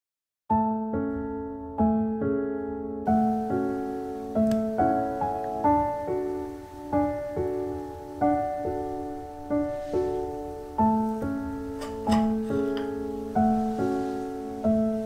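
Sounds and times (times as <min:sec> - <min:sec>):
gentle piano music: 0:00.5 - 0:15.0.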